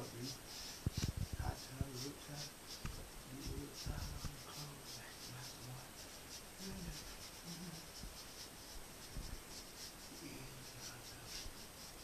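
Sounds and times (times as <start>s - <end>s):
paintbrush brushing on board: 0.0s - 12.0s.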